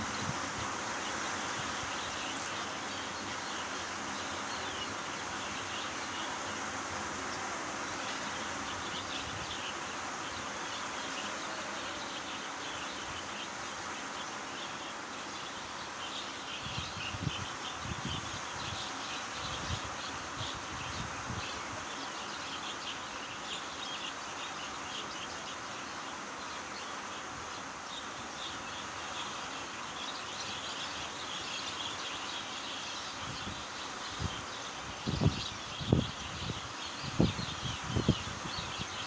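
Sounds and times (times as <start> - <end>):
rain-like hiss: 0.0 - 39.0.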